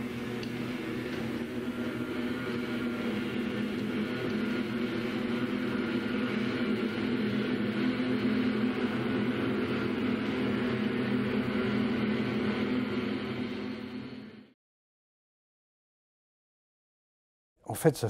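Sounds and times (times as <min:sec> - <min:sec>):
film projector whirring: 0:00.0 - 0:14.5.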